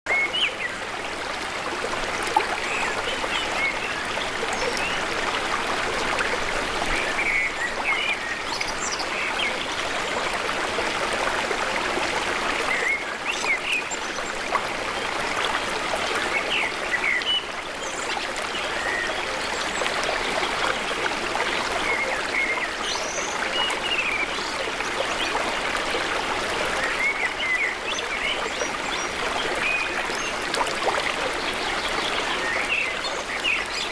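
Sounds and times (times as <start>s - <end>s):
stream running: 0.1s - 33.9s.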